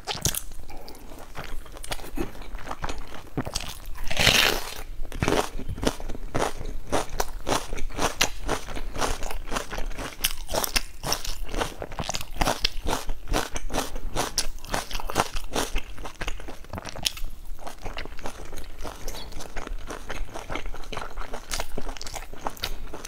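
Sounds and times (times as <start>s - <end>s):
chewing raw onion crunches: 0.0s - 23.0s.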